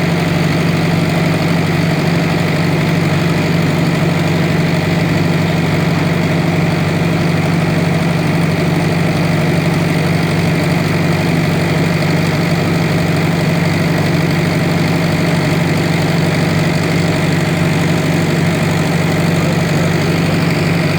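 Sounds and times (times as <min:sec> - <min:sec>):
engine running low hum: 0:00.0 - 0:20.9.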